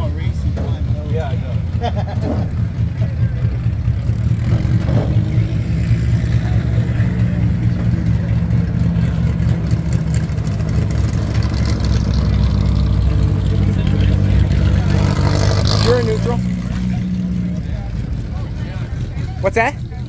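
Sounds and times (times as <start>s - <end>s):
car engine running steadily: 0.0s - 20.0s.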